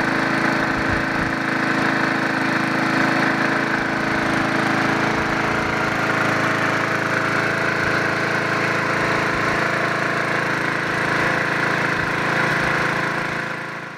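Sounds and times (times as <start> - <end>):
lawn mower engine running: 0.0 - 13.9.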